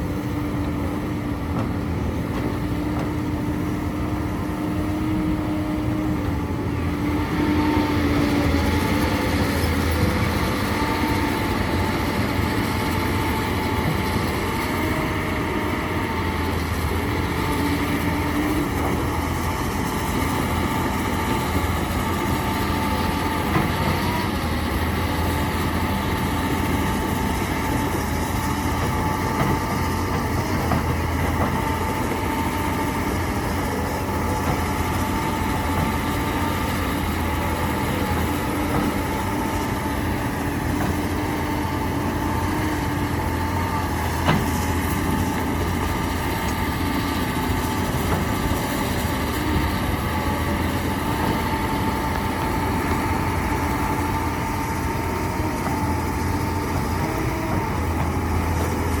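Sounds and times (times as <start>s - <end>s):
diesel engine whining steadily: 0.0s - 59.0s.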